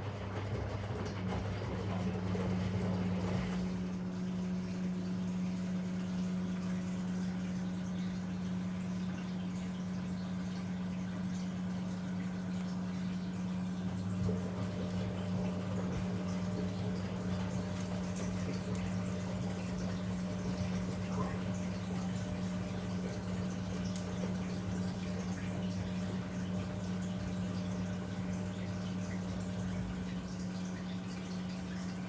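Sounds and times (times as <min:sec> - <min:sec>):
washing machine humming: 0:00.0 - 0:32.0
water sloshing in drum: 0:00.0 - 0:32.0.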